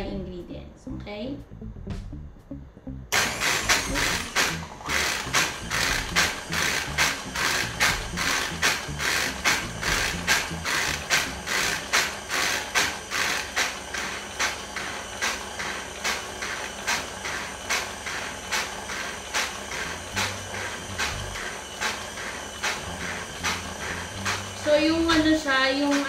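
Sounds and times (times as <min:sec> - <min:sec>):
sifter sharp clicks: 0:03.1 - 0:26.0
stand mixer running: 0:03.1 - 0:26.0.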